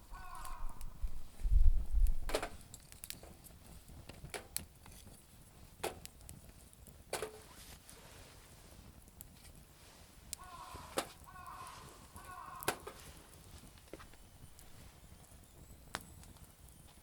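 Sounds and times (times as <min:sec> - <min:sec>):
campfire crackling: 0:00.0 - 0:17.0
sharp pops of fire: 0:00.0 - 0:17.0.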